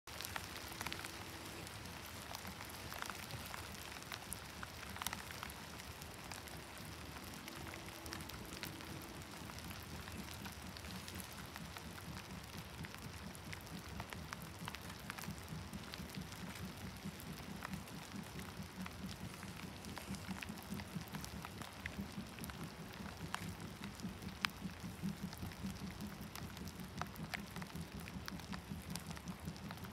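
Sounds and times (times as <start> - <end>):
steady rain falling: 0.1 - 29.9
low rumble: 0.3 - 29.9.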